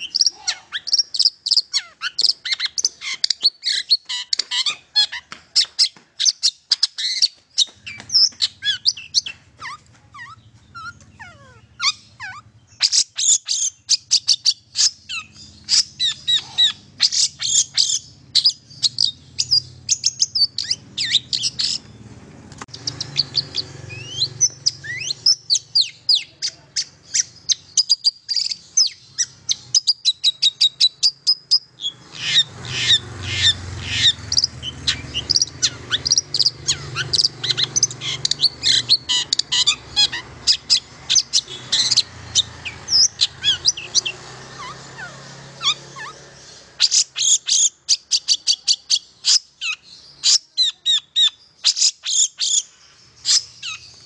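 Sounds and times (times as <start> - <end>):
bird singing high chirps and trills: 0.0 - 54.0.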